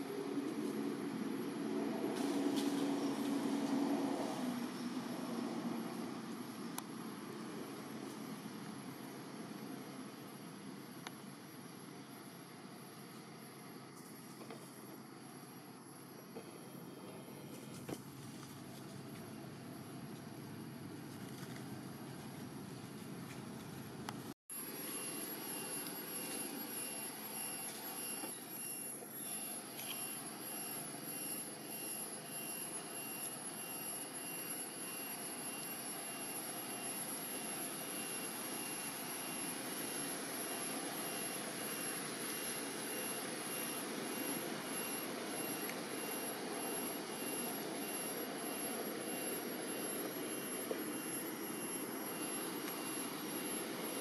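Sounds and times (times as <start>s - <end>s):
faint high whine: 0.0s - 54.0s
rushing outdoor background noise: 0.0s - 54.0s.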